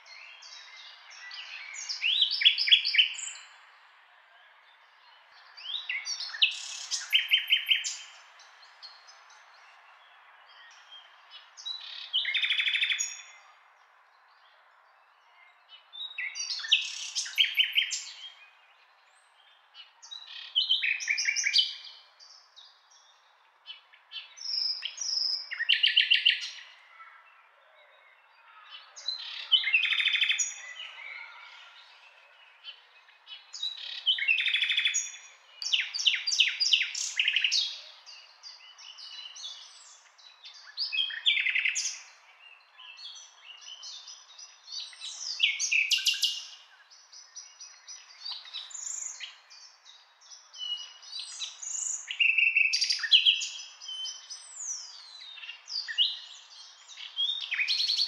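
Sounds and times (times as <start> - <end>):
nightingale singing: 0.0 - 3.6, 5.2 - 13.6, 15.4 - 23.2, 28.9 - 58.0.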